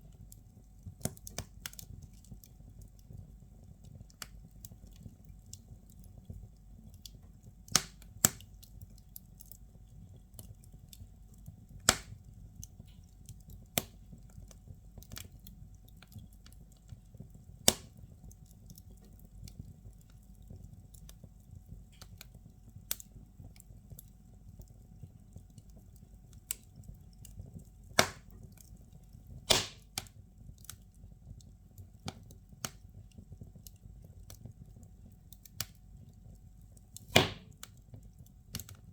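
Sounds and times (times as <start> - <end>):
fire crackling and popping: 0.0 - 38.9
low rumble of fire: 0.0 - 38.9.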